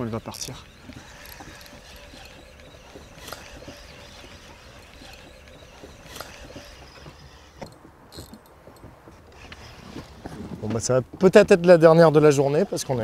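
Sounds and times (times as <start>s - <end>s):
wind and water low rumble: 0.0s - 12.3s.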